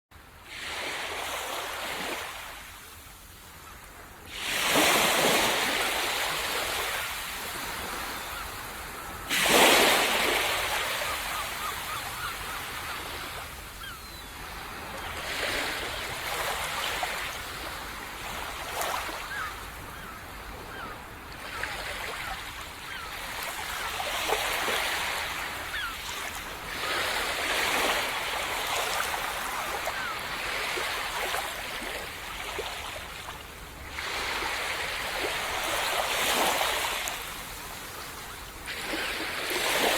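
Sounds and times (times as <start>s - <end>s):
small waves breaking on sand: 0.4s - 39.9s.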